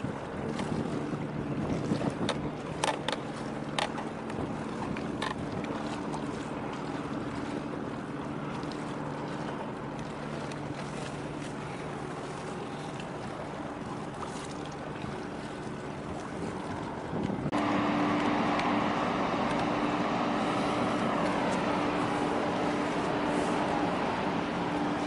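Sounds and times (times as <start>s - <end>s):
marine engine droning: 0.0s - 25.0s
water noise: 0.0s - 25.0s
wind: 0.0s - 25.0s.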